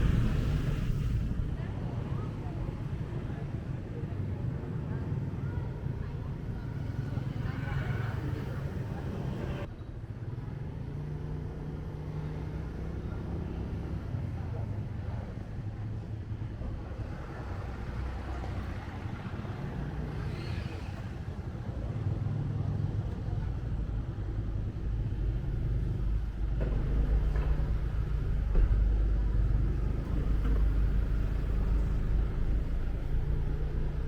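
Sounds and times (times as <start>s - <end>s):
road rumble: 0.0s - 34.0s.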